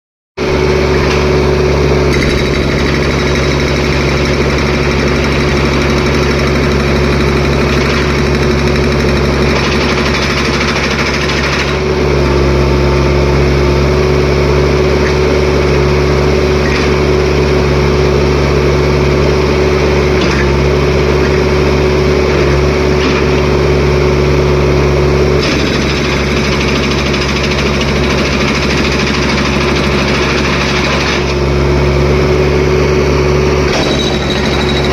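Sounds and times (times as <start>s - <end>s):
jackhammer breaking road surface: 0.6s - 12.4s, 14.3s - 24.3s, 25.2s - 31.7s, 33.6s - 34.9s.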